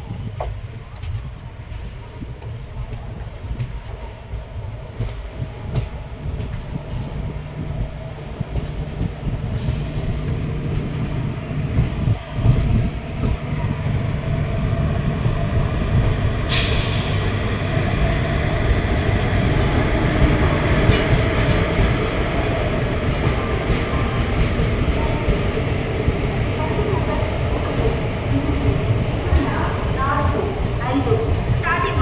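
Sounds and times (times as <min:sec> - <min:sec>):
train coach wheels rumbling: 0:00.0 - 0:32.0.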